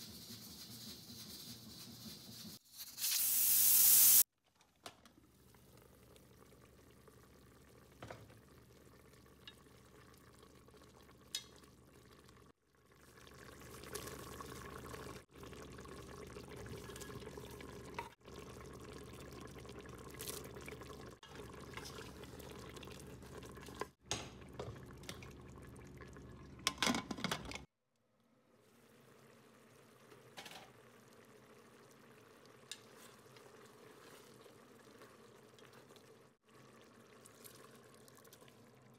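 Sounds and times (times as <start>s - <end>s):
liquid bubbling: 5.2s - 26.8s, 28.6s - 38.9s.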